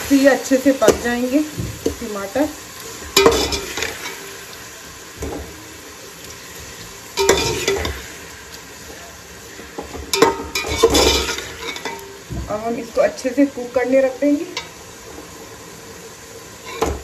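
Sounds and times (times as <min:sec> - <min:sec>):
tomatoes sizzling in oil: 0:00.0 - 0:17.0.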